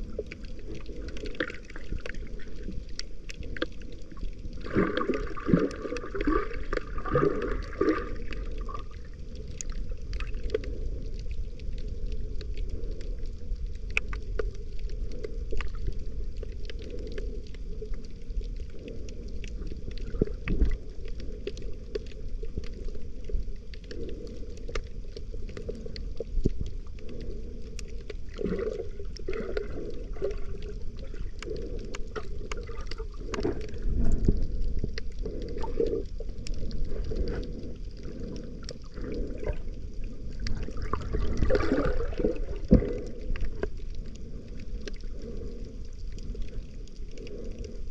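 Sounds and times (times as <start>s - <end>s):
muffled underwater rumble: 0.0s - 47.9s
underwater clicks and crackles: 0.0s - 47.9s.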